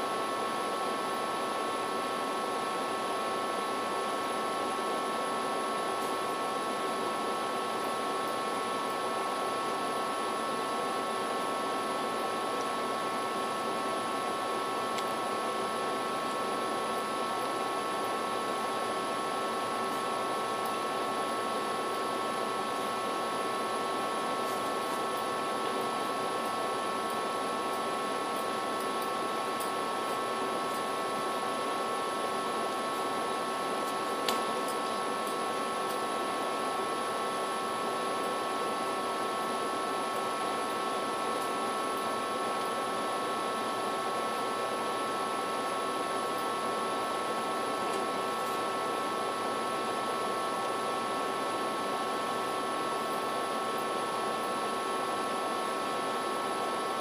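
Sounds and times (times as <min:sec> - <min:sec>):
background hum and hiss: 0:00.0 - 0:57.0.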